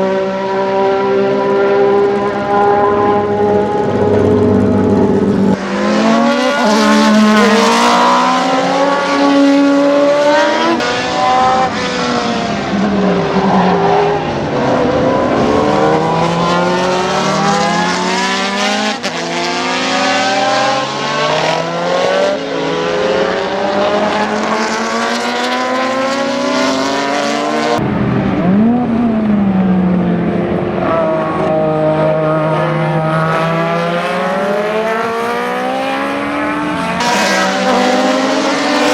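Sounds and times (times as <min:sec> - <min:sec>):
racing car engine through gear changes: 0:00.0 - 0:38.9.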